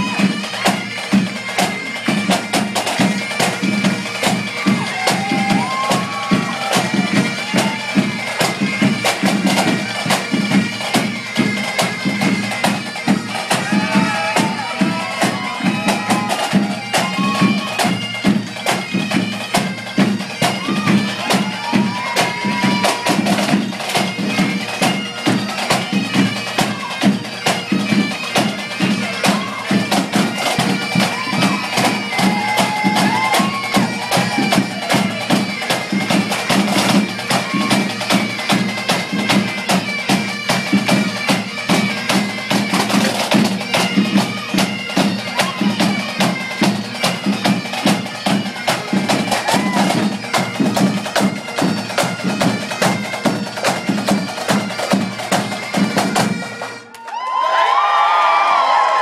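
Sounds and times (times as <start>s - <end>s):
bagpipes playing melody: 0.0s - 56.9s
bagpipe drone: 0.0s - 57.0s.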